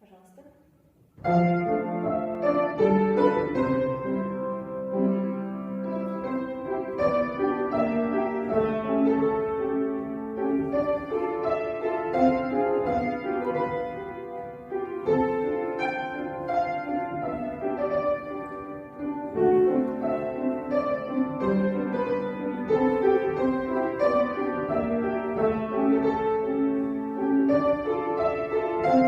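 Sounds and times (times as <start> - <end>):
classical piano music: 1.1 - 29.0.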